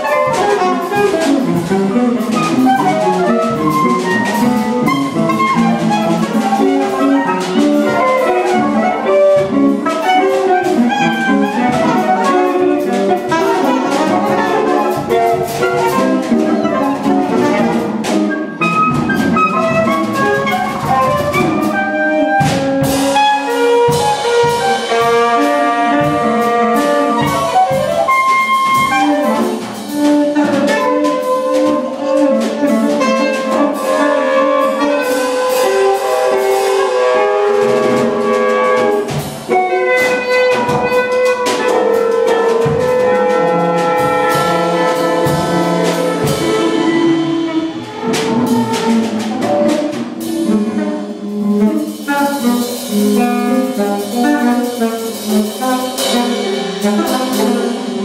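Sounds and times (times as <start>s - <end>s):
drums and cymbals: 0.0s - 58.0s
soprano saxophone: 0.0s - 58.0s.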